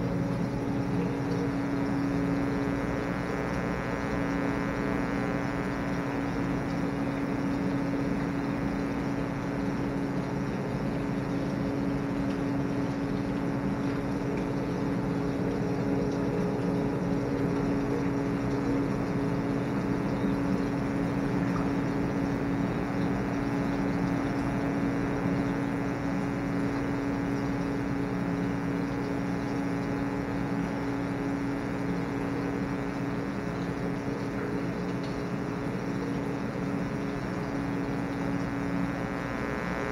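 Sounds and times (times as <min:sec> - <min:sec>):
water pump hum: 0:00.0 - 0:39.9.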